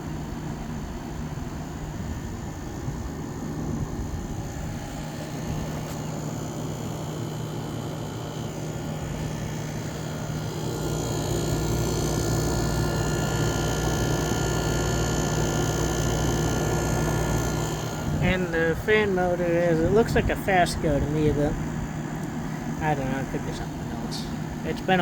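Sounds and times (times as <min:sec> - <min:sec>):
window air conditioner humming: 0:00.0 - 0:25.0.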